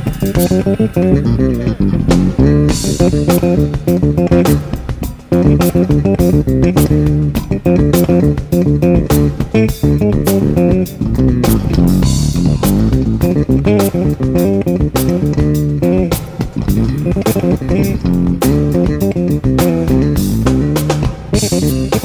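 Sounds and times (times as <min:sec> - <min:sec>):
bass and guitar music with beat: 0:00.0 - 0:22.0.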